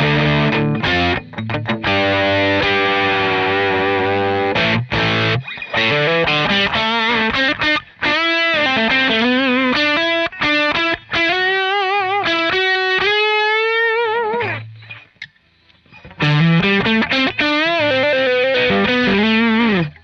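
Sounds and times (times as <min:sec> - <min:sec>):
distorted electric guitar: 0:00.0 - 0:20.0.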